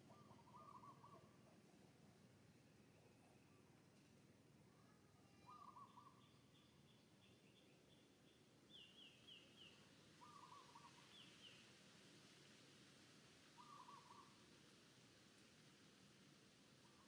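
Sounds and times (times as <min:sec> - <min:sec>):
quiet background noise: 0:00.0 - 0:17.0.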